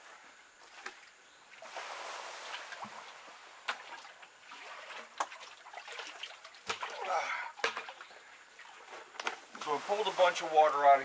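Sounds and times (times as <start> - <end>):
water splashing and trickling: 0.6 - 11.0.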